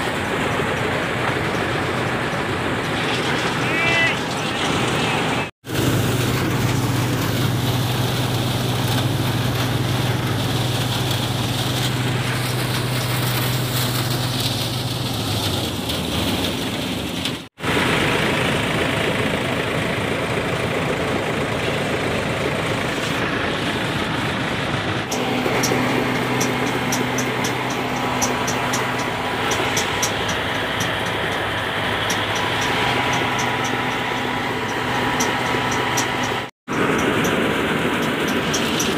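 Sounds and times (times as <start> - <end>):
low engine hum: 0.0 - 38.9
thresher machine running: 0.0 - 38.9.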